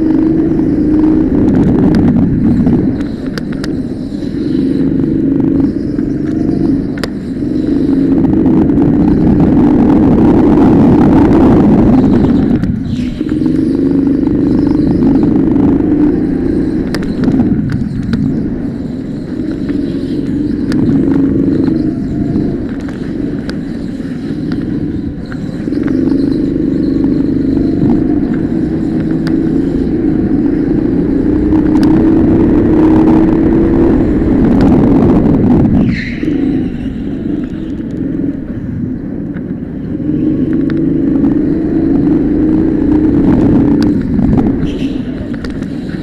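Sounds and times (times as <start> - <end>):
go-kart engine revving: 0.0 - 46.0.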